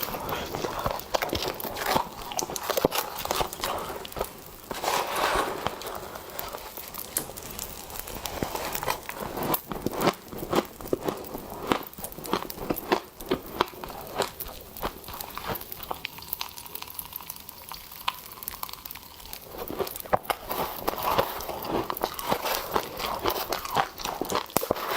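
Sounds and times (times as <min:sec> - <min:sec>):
frost being chewed crunching: 0:00.0 - 0:24.9.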